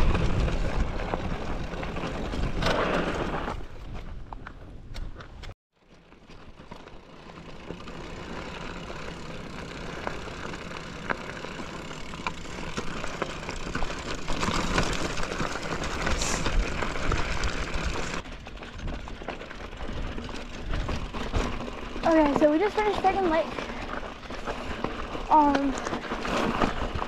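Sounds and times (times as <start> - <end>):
tyres rolling over dirt: 0.0 - 4.4, 5.8 - 27.0
bike rattling over rocks: 0.0 - 27.0.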